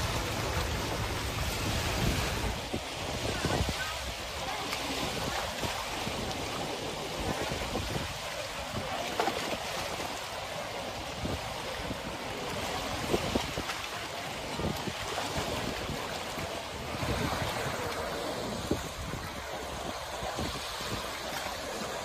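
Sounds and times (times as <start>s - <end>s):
small waves lapping at shore: 0.0s - 22.0s.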